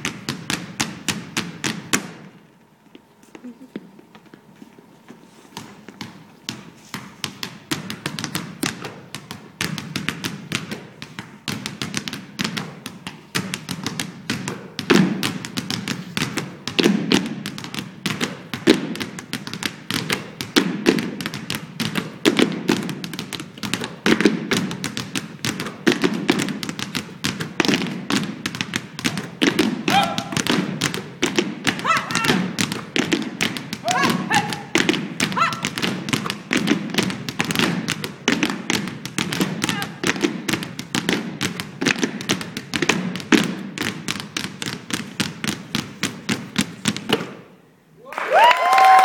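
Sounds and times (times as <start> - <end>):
basketballs bouncing rhythmically: 0.0 - 4.4, 5.5 - 47.5.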